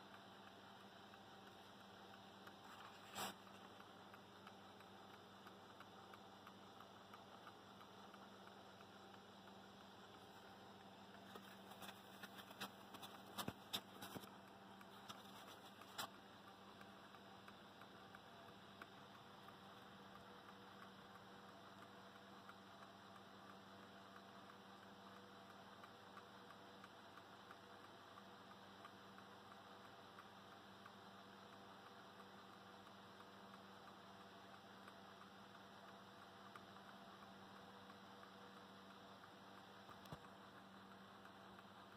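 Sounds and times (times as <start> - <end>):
faint steady hum: 0.0 - 41.9
soft irregular clicks: 0.0 - 41.9.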